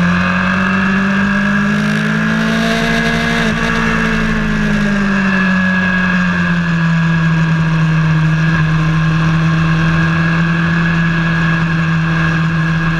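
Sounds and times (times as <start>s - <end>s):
road and wind noise: 0.0s - 12.9s
vehicle engine running: 0.0s - 12.9s.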